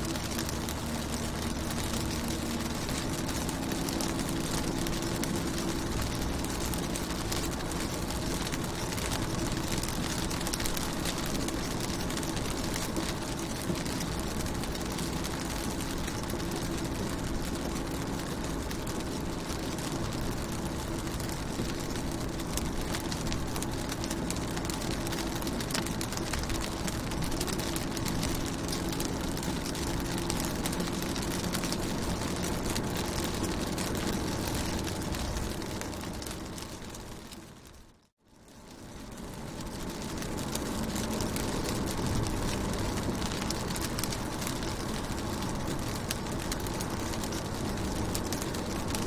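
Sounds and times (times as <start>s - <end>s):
rain pattering on car: 0.0s - 49.0s.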